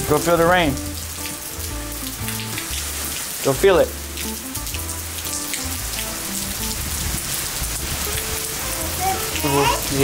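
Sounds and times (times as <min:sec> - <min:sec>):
heavy rain pattering on ground: 0:00.0 - 0:10.0.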